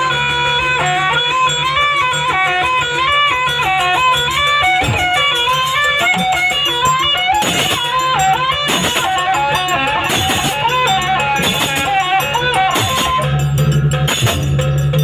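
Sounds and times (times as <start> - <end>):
drum strokes: 0.0 - 15.0
ornamented melody line: 0.0 - 15.0.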